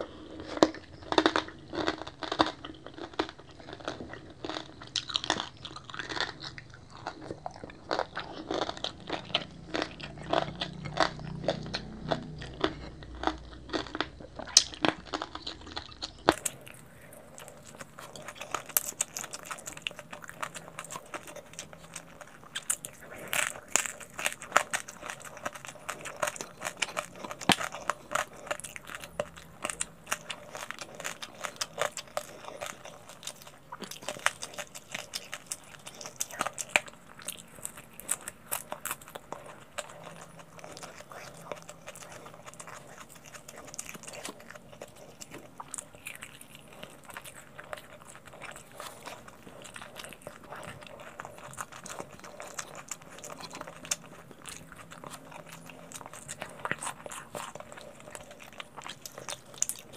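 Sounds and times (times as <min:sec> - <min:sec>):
chewing and crunching: 0:00.0 - 0:59.9.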